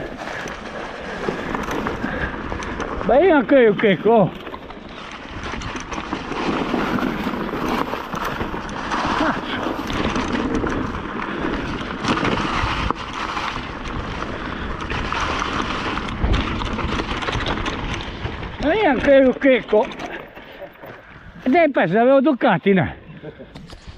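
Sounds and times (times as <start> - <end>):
wind rush on microphone: 0.0 - 20.3
tyres rolling through leaves: 0.0 - 21.8
bike knocking and rattling: 0.0 - 22.0.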